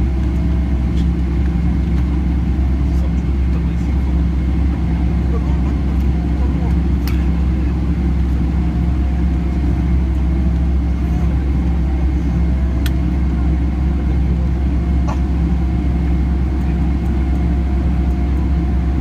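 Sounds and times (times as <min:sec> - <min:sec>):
aircraft cabin engine rumble: 0:00.0 - 0:19.0.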